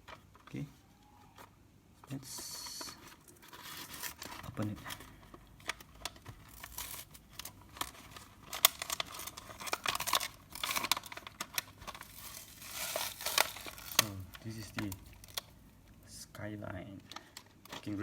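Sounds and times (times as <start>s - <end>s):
packaging crinkling and tearing: 2.2s - 15.7s, 16.8s - 18.0s.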